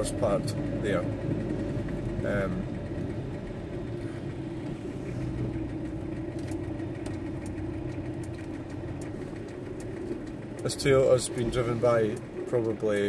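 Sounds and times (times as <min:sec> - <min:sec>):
van engine running: 0:00.0 - 0:13.0.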